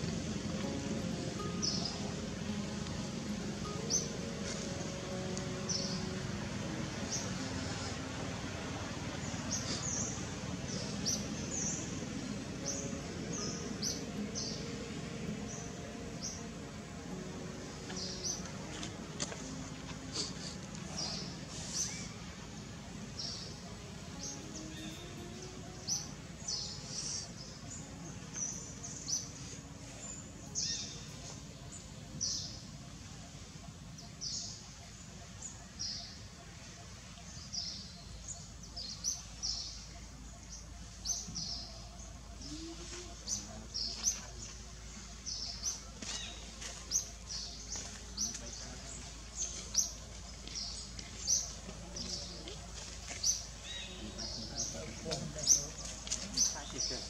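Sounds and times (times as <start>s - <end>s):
faint background hiss: 0.0s - 57.0s
small birds chirping: 0.0s - 57.0s.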